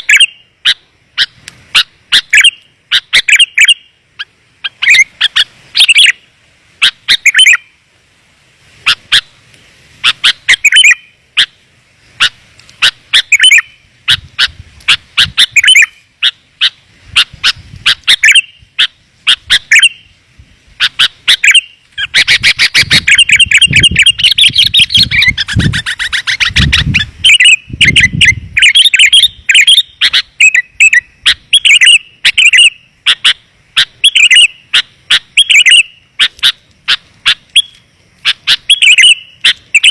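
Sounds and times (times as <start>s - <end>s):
bird chirping: 0.0s - 7.8s, 10.0s - 20.2s, 20.8s - 39.9s.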